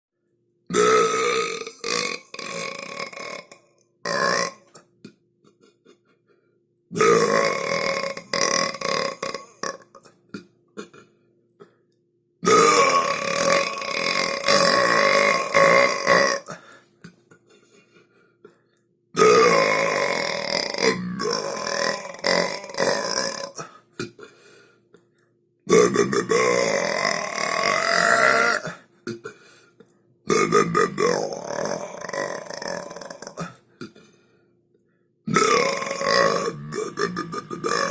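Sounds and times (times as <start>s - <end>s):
long human burps: 0.7s - 6.0s, 6.9s - 11.8s, 12.4s - 18.0s, 19.2s - 24.4s, 25.7s - 29.7s, 30.3s - 34.2s, 35.3s - 37.9s.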